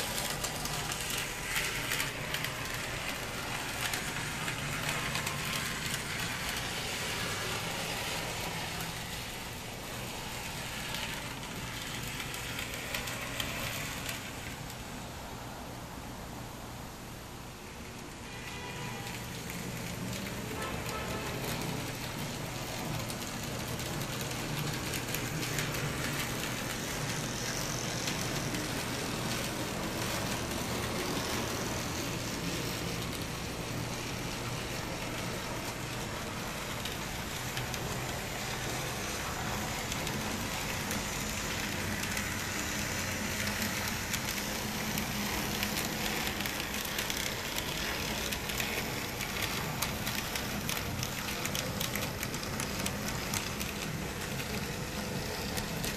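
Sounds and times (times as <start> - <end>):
whir of small electric motors: 0.0 - 14.8, 18.2 - 55.9
wheels rolling on rails: 0.0 - 55.9.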